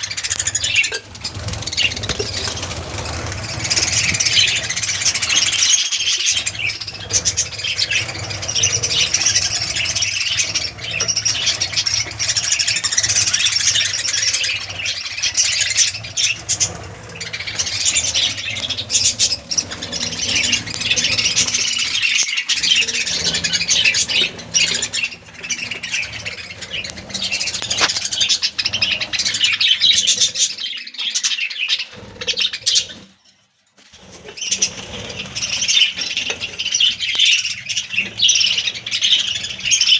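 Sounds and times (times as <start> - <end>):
budgerigars chattering and squawking: 0.0 - 33.3, 33.9 - 39.9.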